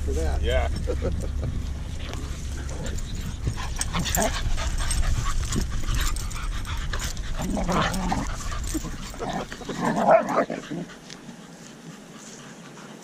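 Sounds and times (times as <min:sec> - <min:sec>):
dogs vocalizing in rough play: 0:00.8 - 0:13.0.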